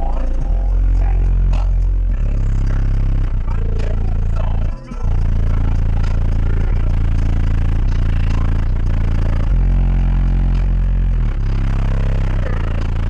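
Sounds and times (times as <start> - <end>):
loud subwoofer bass music: 0.0 - 13.0.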